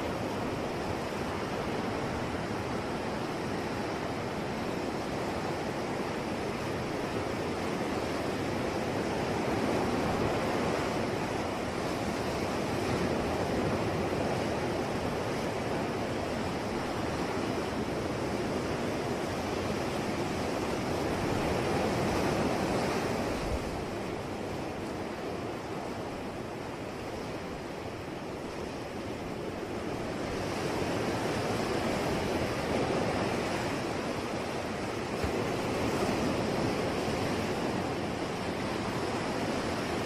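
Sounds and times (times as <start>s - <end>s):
ocean waves washing onto shore: 0.0s - 40.0s.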